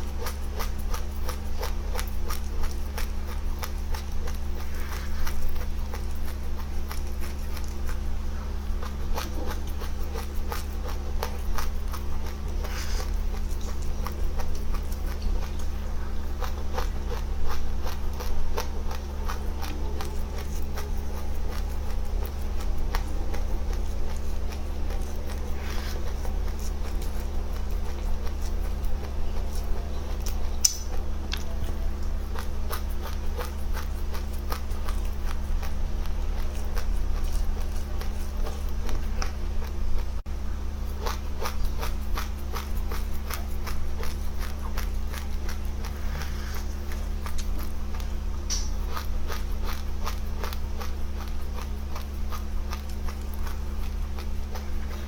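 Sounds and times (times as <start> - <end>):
chewing and crunching seeds: 0.0 - 55.0
steady low hum: 0.0 - 55.0.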